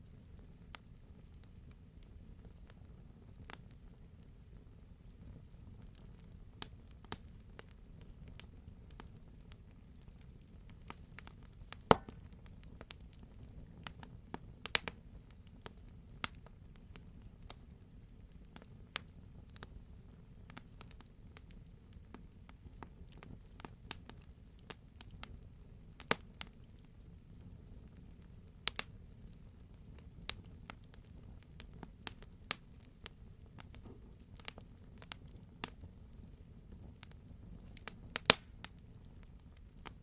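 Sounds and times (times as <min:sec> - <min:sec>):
low rumble of burning fire: 0:00.0 - 0:40.0
campfire crackling and popping: 0:00.1 - 0:40.0.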